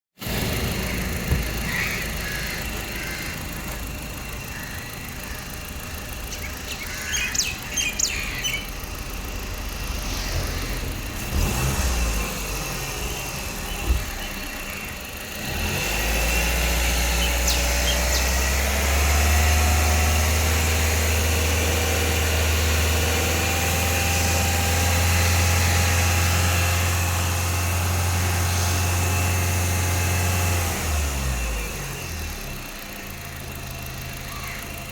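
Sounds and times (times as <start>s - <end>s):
car engine idling and revving: 0.2s - 34.9s.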